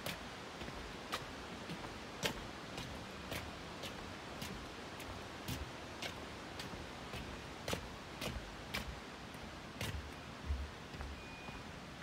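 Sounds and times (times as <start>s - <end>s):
footsteps on wooden deck: 0.0s - 12.0s.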